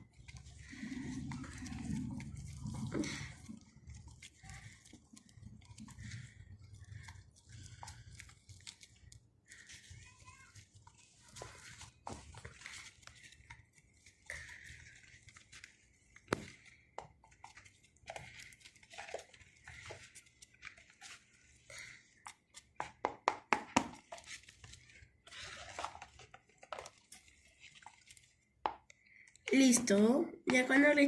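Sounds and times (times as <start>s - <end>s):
stick scraping thick mixture: 0.0s - 31.0s.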